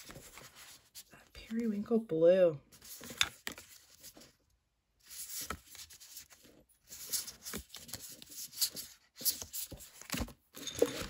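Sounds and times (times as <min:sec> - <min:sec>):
cards sliding and rustling: 0:00.0 - 0:01.6, 0:02.7 - 0:04.4, 0:05.0 - 0:11.0.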